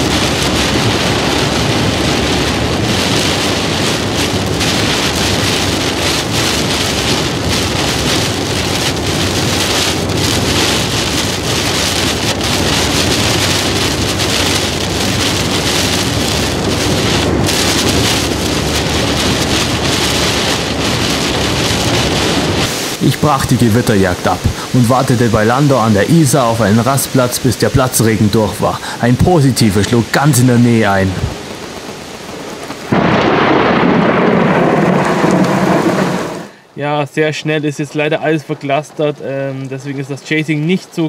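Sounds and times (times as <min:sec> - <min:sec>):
heavy rain on car roof: 0:00.0 - 0:36.6, 0:37.8 - 0:41.0.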